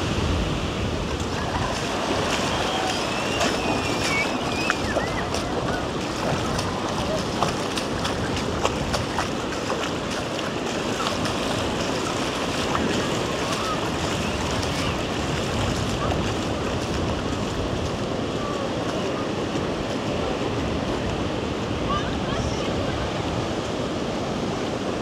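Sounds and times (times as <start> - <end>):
ocean surf on beach: 0.0 - 25.0.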